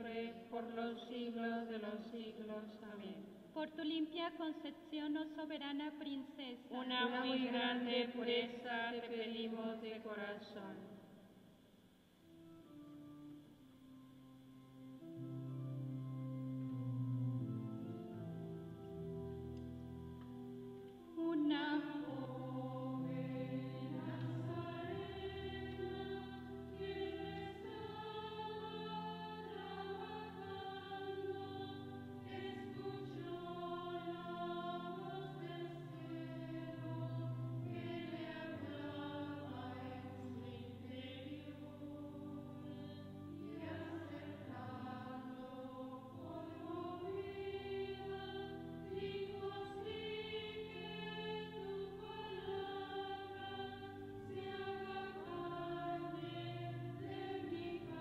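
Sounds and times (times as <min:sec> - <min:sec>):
choir singing a slow hymn: 0:00.0 - 0:03.4, 0:06.7 - 0:11.2, 0:15.0 - 0:58.0.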